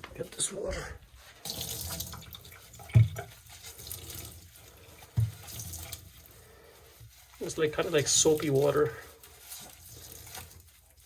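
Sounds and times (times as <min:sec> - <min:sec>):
water splashing and dripping: 0:01.4 - 0:11.0.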